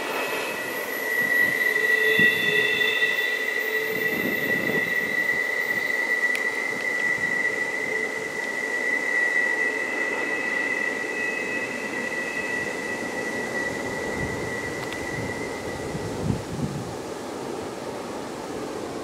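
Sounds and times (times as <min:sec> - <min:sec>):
train wheels squealing: 0:00.0 - 0:17.0
train rumble: 0:00.0 - 0:19.0.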